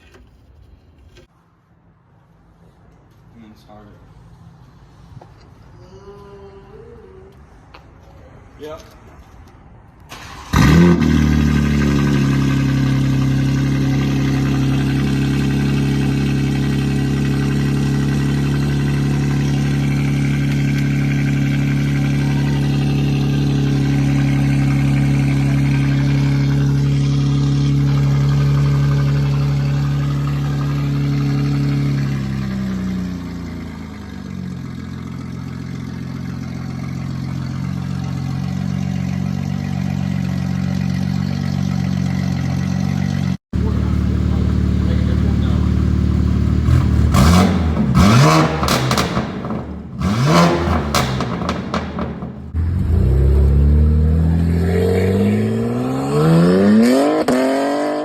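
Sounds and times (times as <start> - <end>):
car engine starting and idling: 10.0 - 58.0.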